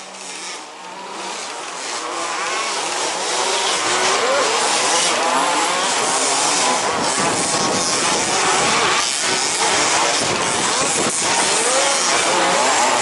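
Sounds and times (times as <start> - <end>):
rc buggy motors revving: 0.0 - 13.0.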